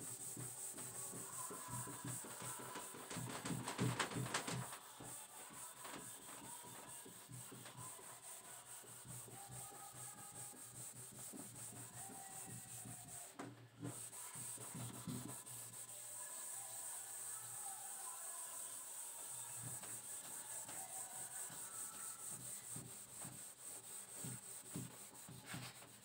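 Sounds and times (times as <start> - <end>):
duster wiping a whiteboard: 0.0 - 26.0.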